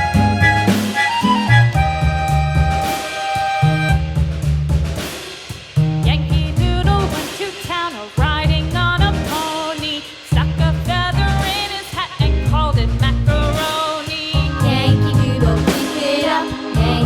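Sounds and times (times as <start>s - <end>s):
song with bass and drum beat: 0.0s - 17.0s.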